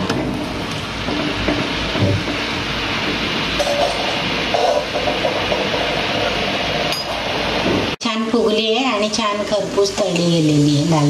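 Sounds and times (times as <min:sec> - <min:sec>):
oil sizzling while deep-frying: 0:00.0 - 0:11.0.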